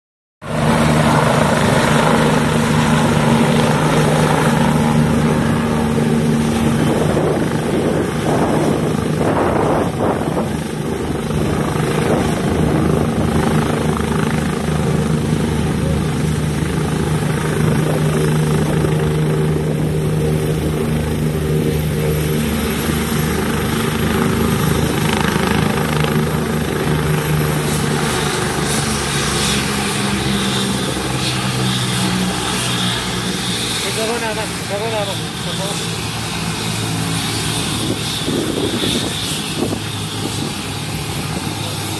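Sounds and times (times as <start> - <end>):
helicopter rotor and engine: 0.4 - 41.9.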